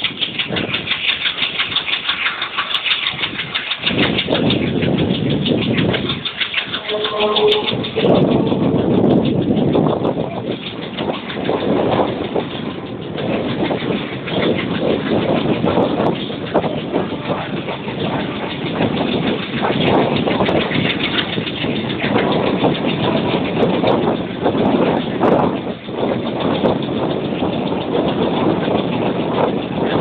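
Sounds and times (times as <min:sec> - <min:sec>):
diesel locomotive engine chugging: 0:00.0 - 0:30.0
train wheels clattering on rails: 0:00.0 - 0:30.0.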